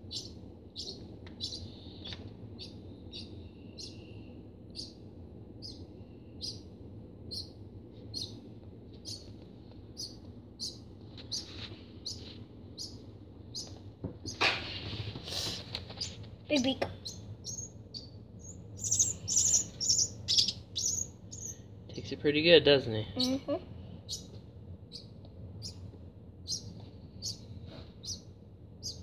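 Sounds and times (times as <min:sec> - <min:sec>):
low steady hum: 0:00.0 - 0:29.0
bird chick peeping: 0:00.1 - 0:05.0, 0:05.6 - 0:06.7, 0:07.3 - 0:08.4, 0:09.0 - 0:09.3, 0:09.9 - 0:21.6, 0:24.0 - 0:29.0.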